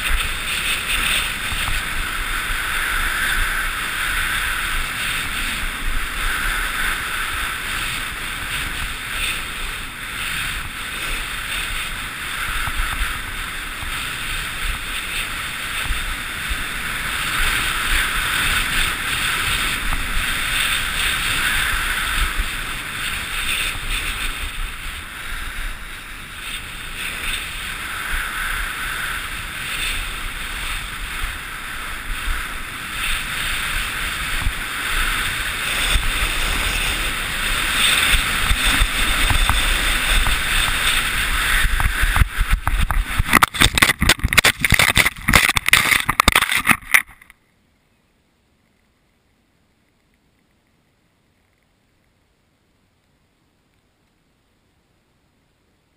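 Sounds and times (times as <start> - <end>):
skis running over packed snow: 0.0 - 47.2
wind rushing on microphone: 0.0 - 47.3.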